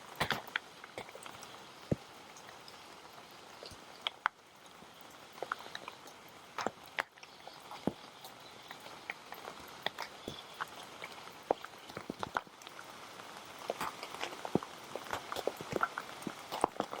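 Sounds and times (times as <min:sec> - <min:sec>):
close raindrops landing: 0:00.0 - 0:17.0
light rain falling: 0:00.0 - 0:17.0.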